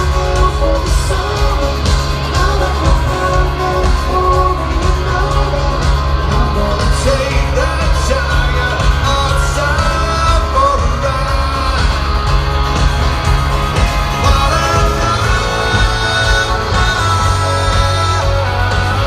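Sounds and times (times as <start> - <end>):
person singing: 0.0 - 12.9, 13.8 - 19.0
live rock band playing: 0.0 - 19.0
steady bass: 0.0 - 19.0.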